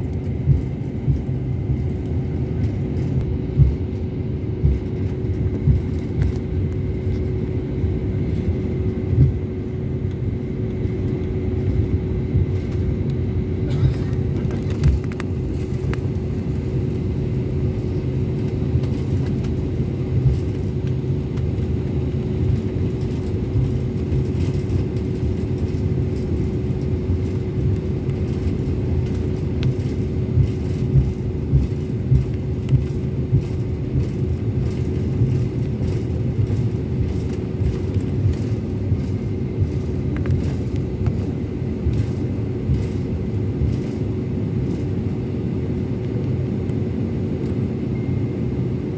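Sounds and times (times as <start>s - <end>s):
jet engines rumbling: 0.0s - 48.9s.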